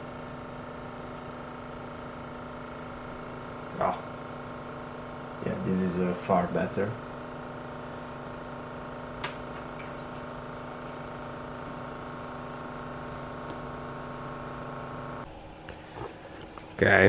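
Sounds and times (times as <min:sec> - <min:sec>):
electric vacuum pump whining: 0:00.0 - 0:17.0.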